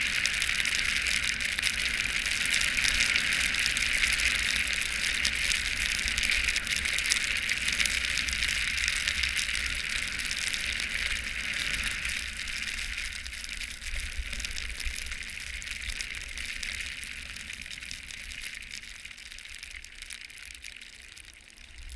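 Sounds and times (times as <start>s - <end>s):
skis sliding over snow: 0.0s - 19.5s.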